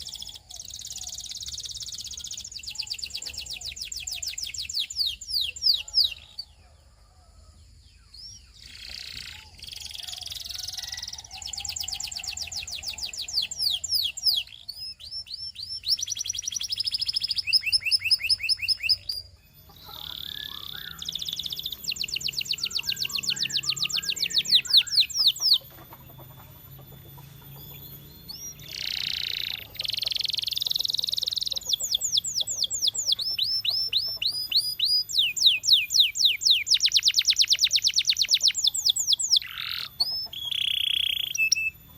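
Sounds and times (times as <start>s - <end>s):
canary singing trills: 0.0s - 7.1s, 7.7s - 41.9s.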